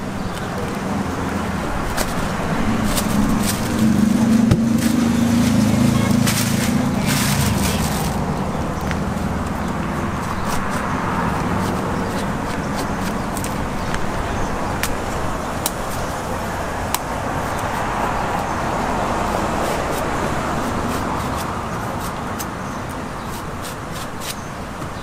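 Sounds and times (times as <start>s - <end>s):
road traffic: 0.0s - 25.0s
street market noise: 0.0s - 25.0s.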